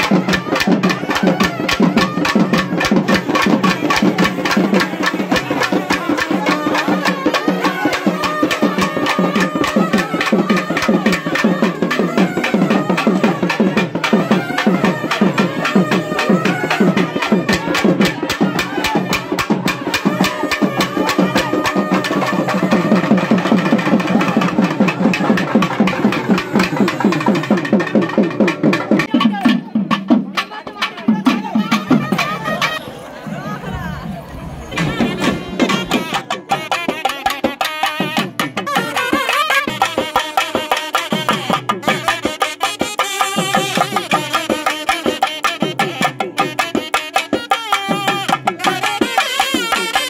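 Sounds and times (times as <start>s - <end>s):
wavering wind instrument melody: 0.0s - 29.3s, 30.4s - 50.0s
drums played with sticks: 0.0s - 33.6s, 34.6s - 50.0s.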